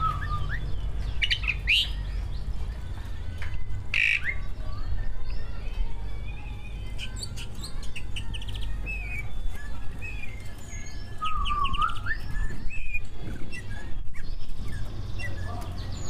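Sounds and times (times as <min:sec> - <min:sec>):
bird singing whistles and trills: 0:00.0 - 0:02.9, 0:03.9 - 0:16.0.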